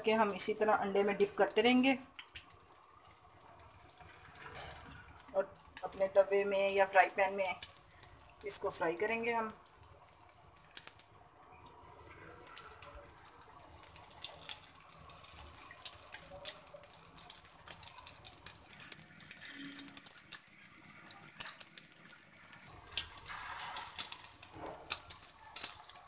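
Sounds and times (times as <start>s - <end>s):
patties sizzling in hot oil: 0.0s - 26.0s.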